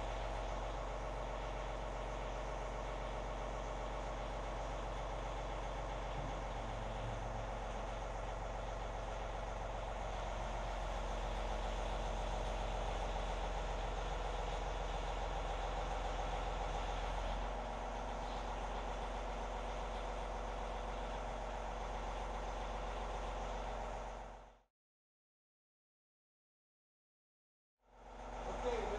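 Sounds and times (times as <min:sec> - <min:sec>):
tractor diesel engine running: 0:00.0 - 0:24.6, 0:27.9 - 0:28.9.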